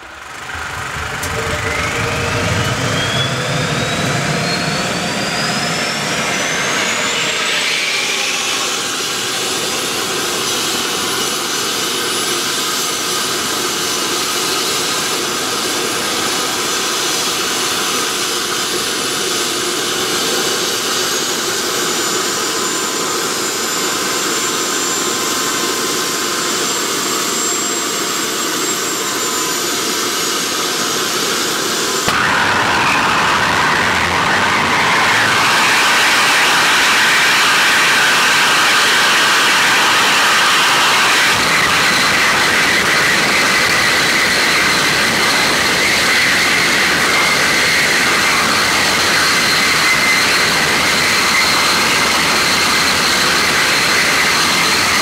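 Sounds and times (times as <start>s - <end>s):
turbojet engine whining and roaring: 0.0s - 55.0s.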